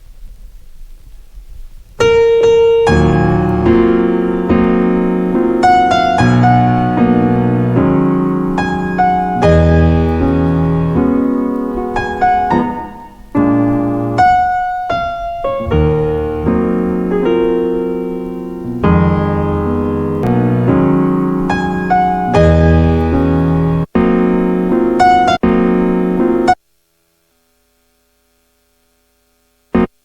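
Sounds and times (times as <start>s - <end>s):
chopped piano chords: 2.0s - 26.6s.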